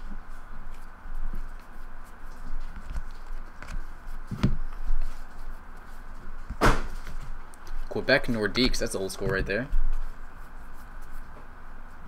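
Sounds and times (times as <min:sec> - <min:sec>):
trading cards sliding and rustling: 0:00.1 - 0:12.0.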